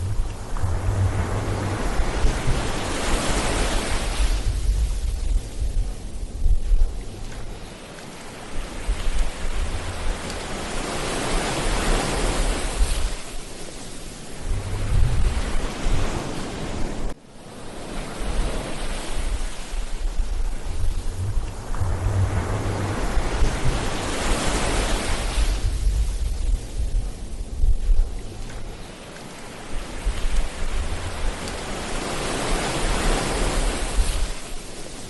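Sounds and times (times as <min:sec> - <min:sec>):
wind buffeting microphone: 0:00.0 - 0:17.2, 0:18.2 - 0:35.0
ocean waves breaking: 0:00.0 - 0:35.0.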